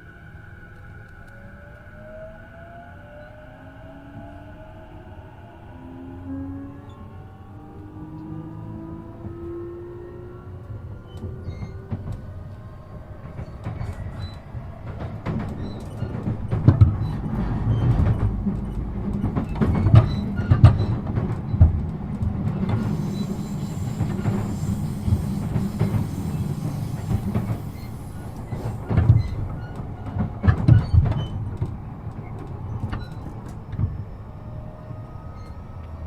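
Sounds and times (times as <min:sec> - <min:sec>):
train rolling noise: 0:00.0 - 0:36.0.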